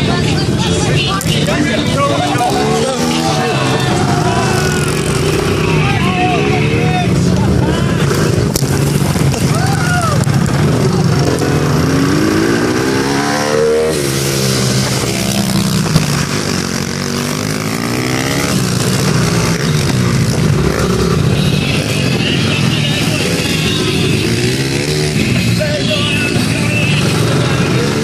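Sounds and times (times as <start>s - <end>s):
mini dirt bike engines revving: 0.0s - 28.0s.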